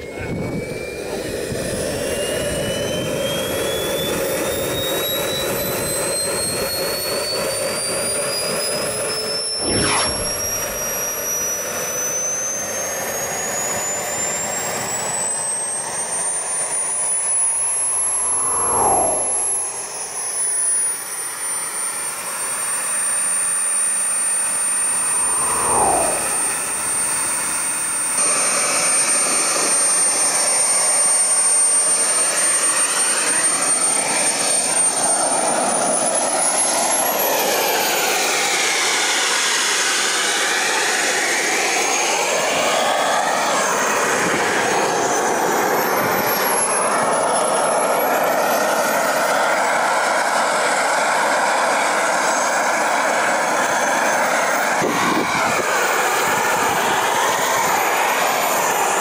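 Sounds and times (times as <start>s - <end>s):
small turbine engine whining: 0.0s - 59.0s.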